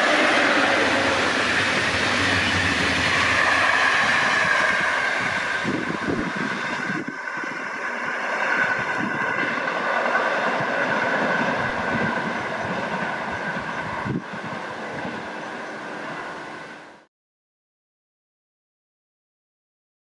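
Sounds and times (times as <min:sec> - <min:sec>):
train wheels rushing on rail: 0:00.0 - 0:17.1.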